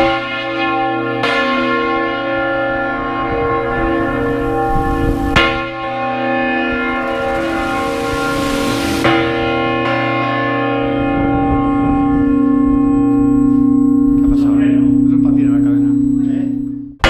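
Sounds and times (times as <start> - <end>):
large church bell ringing: 0.0 - 17.0.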